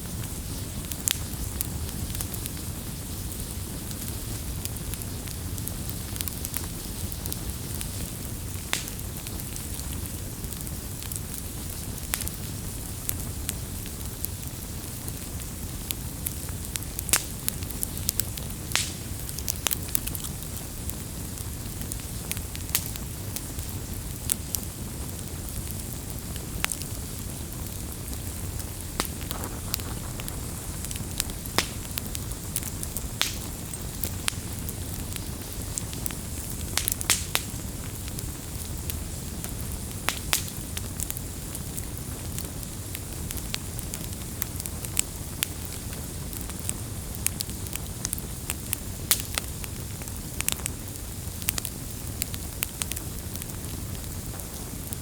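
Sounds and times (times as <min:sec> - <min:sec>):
campfire flame rumble: 0:00.0 - 0:55.0
fire crackles and pops: 0:00.0 - 0:55.0.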